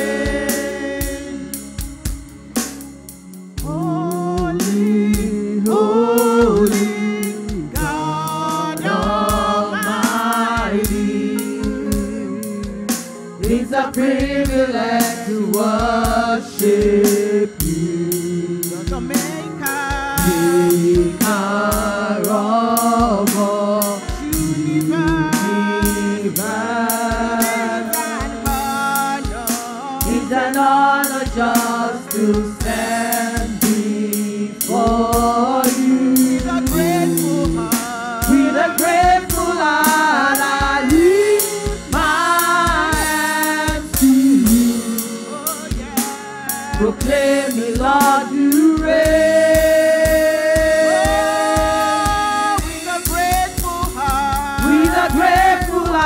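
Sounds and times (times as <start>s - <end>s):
women's choir singing gospel: 0.0s - 2.2s, 3.6s - 56.0s
band with steady drum beat: 0.0s - 56.0s.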